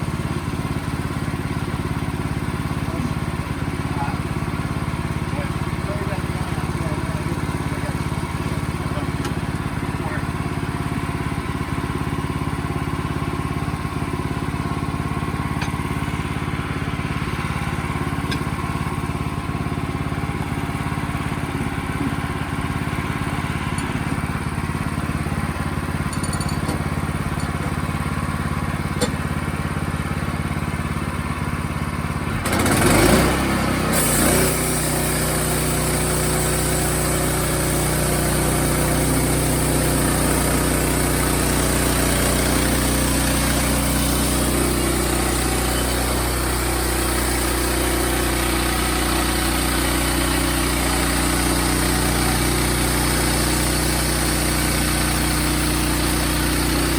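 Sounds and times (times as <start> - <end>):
sawmill engine running: 0.0 - 56.9.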